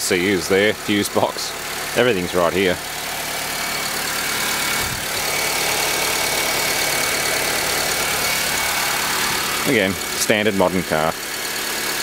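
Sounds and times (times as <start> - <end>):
car engine idling: 0.0 - 12.0
fuel injectors ticking: 0.0 - 12.0.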